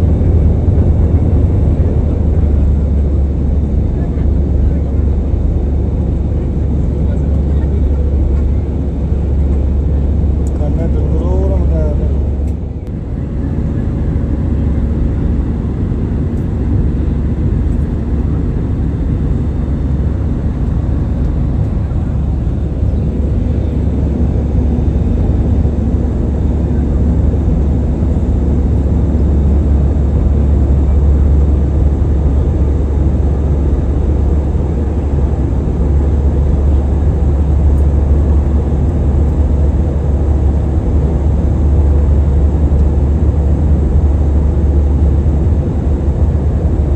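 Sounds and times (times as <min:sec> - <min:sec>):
jet engines deep rumble: 0:00.0 - 0:46.9.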